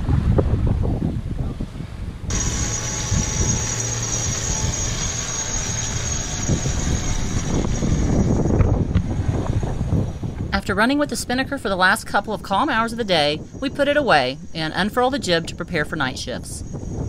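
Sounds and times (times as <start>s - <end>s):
wind and water noise: 0.0s - 17.0s
low hum: 1.4s - 17.0s
high-pitched mechanical whine: 2.3s - 11.2s, 12.2s - 17.0s.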